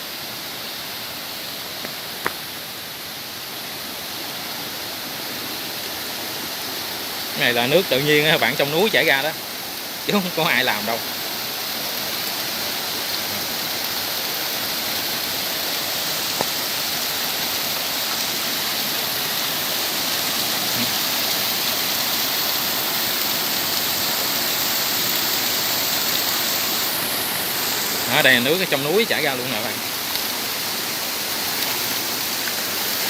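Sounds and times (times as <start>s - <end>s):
water rushing over rocks: 0.0s - 33.0s.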